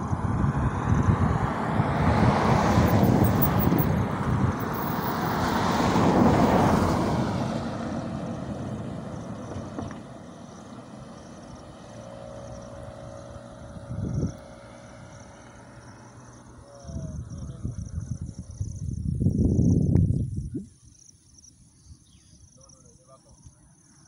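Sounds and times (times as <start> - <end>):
vehicles passing: 0.0 - 19.8
road noise: 0.0 - 24.0.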